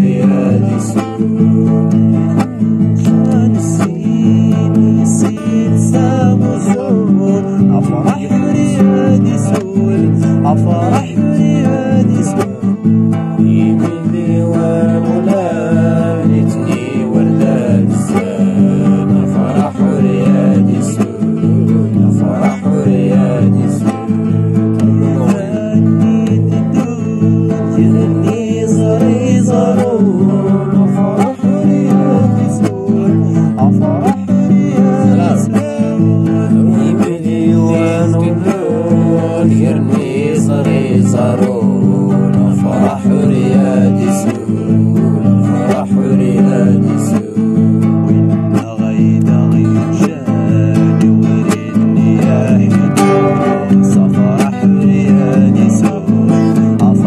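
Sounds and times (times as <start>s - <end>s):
plucked guitar music: 0.0s - 57.0s.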